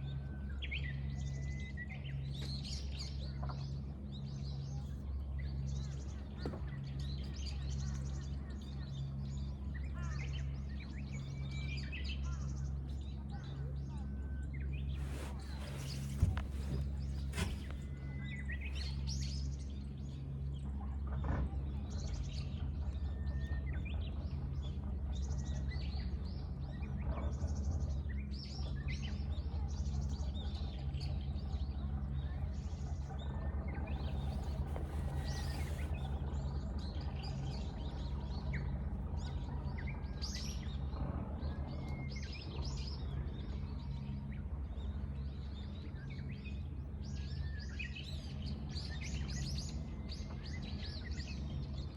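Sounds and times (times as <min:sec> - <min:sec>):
steady low background hum: 0:00.0 - 0:51.9.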